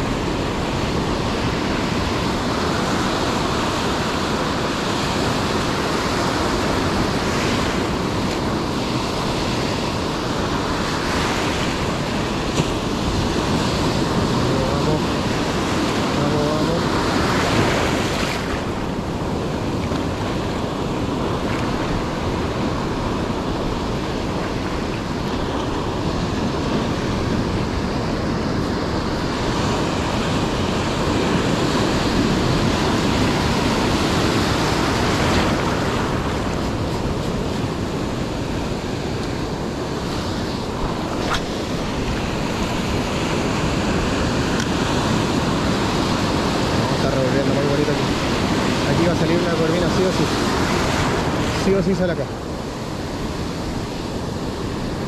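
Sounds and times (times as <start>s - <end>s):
ocean surf breaking on beach: 0.0s - 55.0s
wind on microphone: 0.0s - 55.0s.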